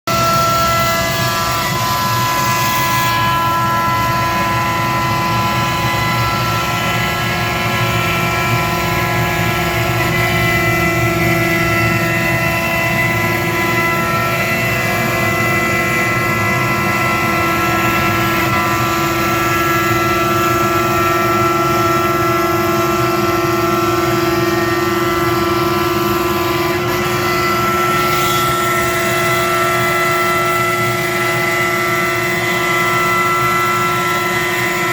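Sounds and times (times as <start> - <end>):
router spindle whining: 0.1 - 34.9.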